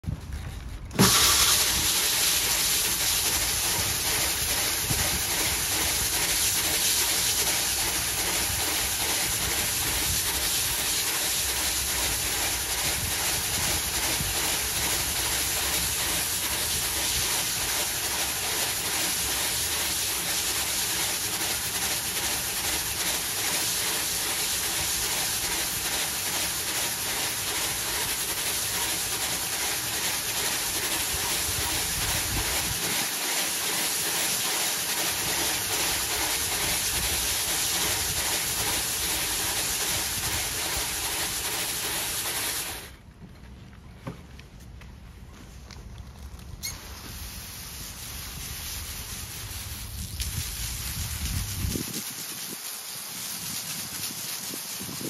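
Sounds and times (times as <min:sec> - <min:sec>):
scrubbing machine hissing: 0:01.0 - 0:43.0, 0:46.6 - 0:55.0.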